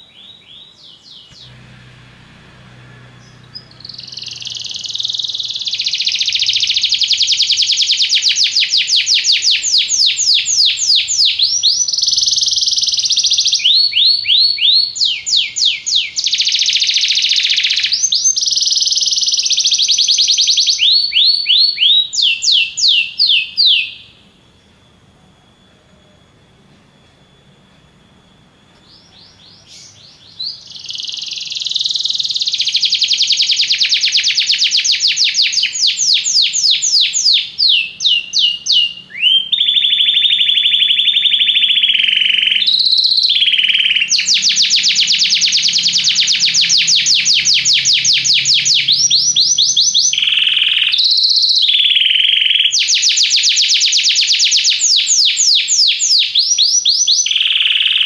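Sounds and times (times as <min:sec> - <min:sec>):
canary singing trills: 0:00.0 - 0:24.2, 0:28.8 - 0:58.0.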